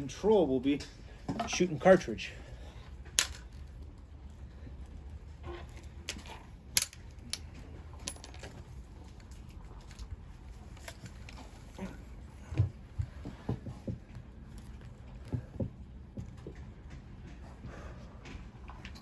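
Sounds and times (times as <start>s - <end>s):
low rumble of wind: 0.0s - 19.0s.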